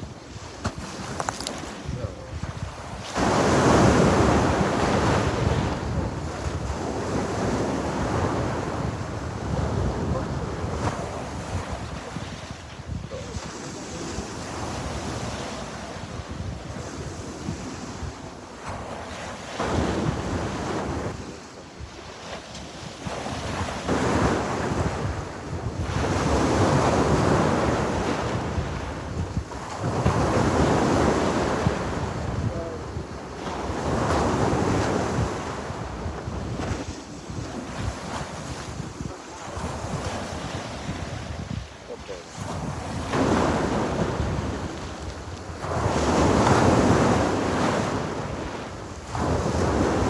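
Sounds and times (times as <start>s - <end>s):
sea waves washing onto shore: 0.0s - 50.0s.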